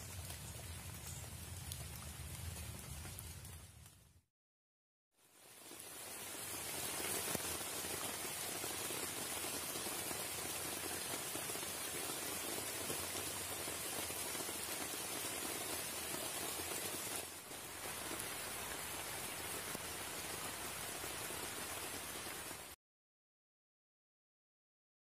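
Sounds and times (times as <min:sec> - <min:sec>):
rain falling: 0:00.0 - 0:04.3, 0:05.2 - 0:22.8.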